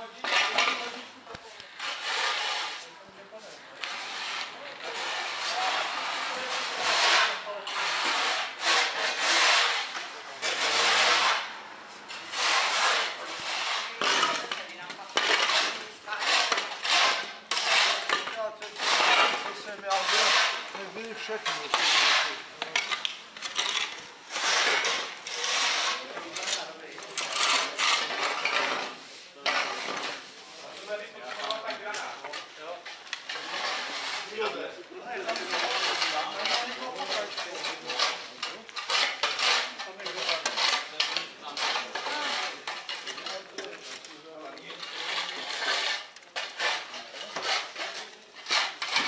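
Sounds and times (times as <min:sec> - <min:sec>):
shovel scraping concrete floor: 0:00.0 - 0:49.0.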